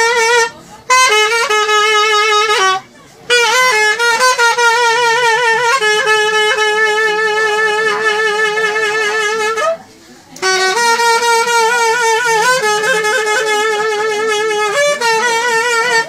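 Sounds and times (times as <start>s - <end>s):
reed wind instrument folk melody: 0.0s - 16.0s.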